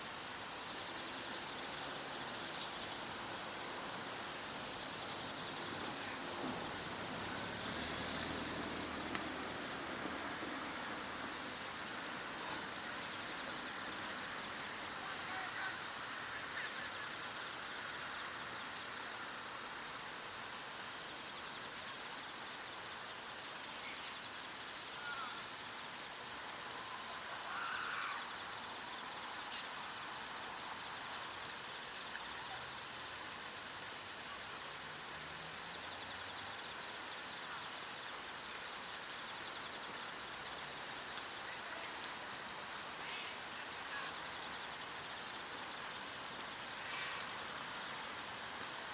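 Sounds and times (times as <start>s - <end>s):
flowing water: 0.0s - 48.9s.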